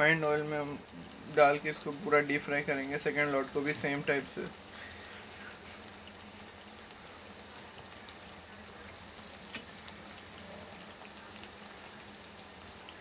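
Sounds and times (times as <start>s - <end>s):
bread sizzling in hot oil: 0.0s - 13.0s
oil crackling: 0.0s - 13.0s.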